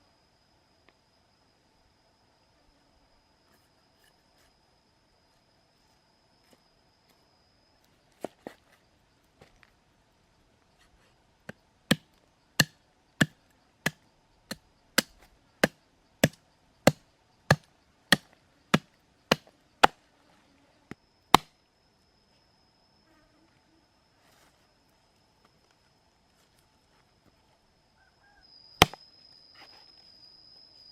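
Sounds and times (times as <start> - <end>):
faint high insect buzz: 0.0 - 30.9.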